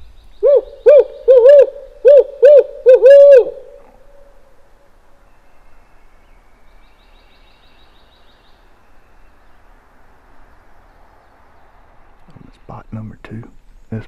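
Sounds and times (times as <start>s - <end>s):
background hiss: 0.0s - 14.0s
songbird trill: 0.0s - 14.0s.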